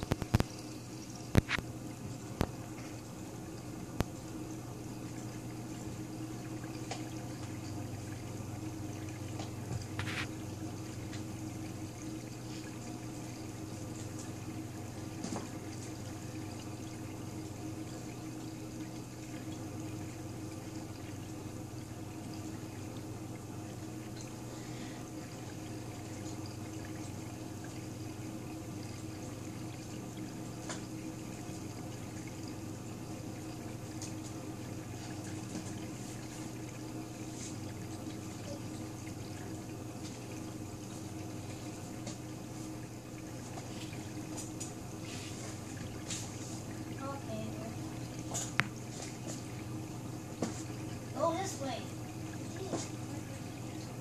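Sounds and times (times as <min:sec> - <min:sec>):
low pump hum: 0:00.0 - 0:54.0
water trickling and splashing: 0:00.0 - 0:54.0.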